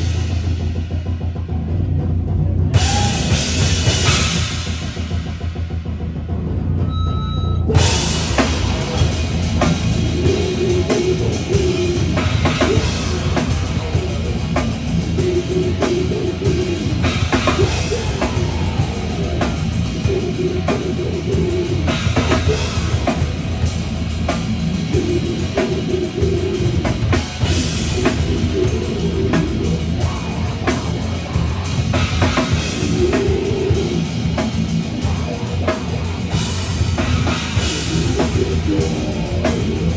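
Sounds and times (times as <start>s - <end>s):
rapid drumming: 0.0s - 6.8s, 7.7s - 39.9s
bass guitar: 0.0s - 39.9s
distorted electric guitars: 0.0s - 39.9s.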